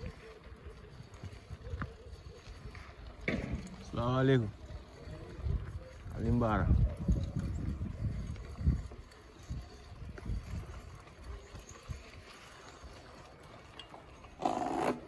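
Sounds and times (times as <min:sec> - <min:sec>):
bicycle rolling over rough road: 0:00.0 - 0:15.0.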